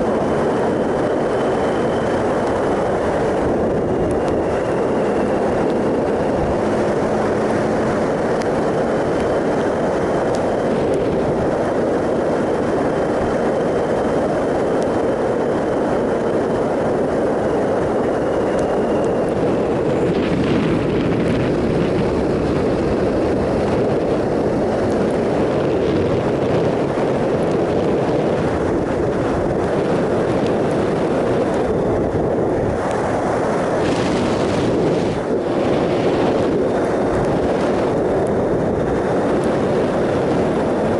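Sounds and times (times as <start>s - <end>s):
motorcycle engine cruising: 0.0s - 40.9s
wind over microphone: 0.0s - 40.9s.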